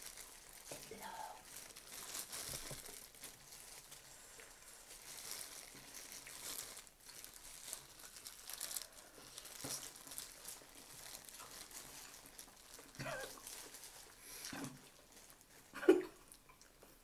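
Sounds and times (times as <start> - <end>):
plastic gloves crinkling: 0.0 - 16.7
faint chewing sounds: 0.0 - 17.0.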